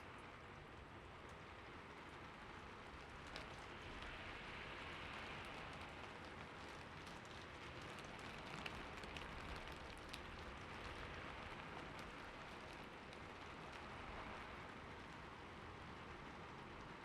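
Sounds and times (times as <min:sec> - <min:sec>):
soft rainfall hiss: 0:00.0 - 0:17.0
raindrops ticking: 0:01.2 - 0:17.0.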